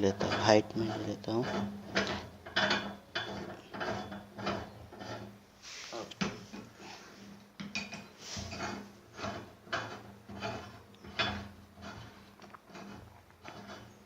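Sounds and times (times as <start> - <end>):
metallic clinks and scrapes: 0.0 - 14.0.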